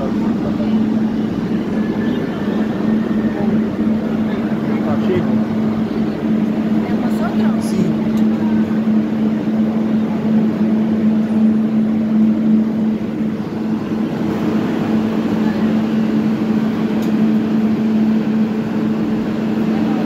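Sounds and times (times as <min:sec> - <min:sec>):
faint crowd murmur: 0:00.0 - 0:20.0
metro train humming: 0:00.0 - 0:20.0.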